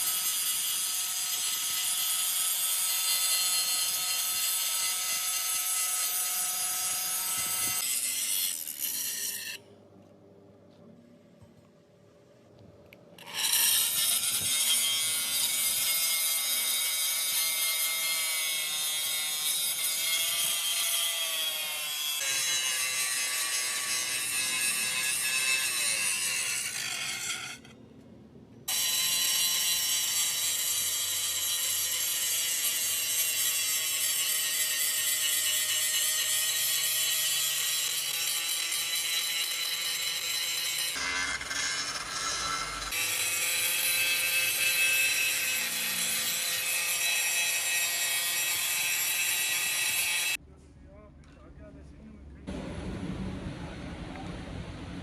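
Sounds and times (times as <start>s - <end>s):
power tool grinding metal: 0.0s - 9.6s, 13.2s - 27.7s, 28.7s - 50.4s.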